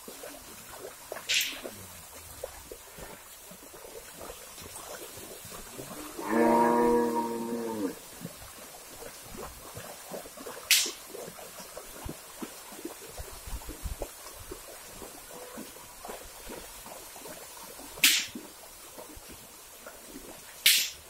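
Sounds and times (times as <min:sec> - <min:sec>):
hooves splashing in water: 0:00.0 - 0:21.0.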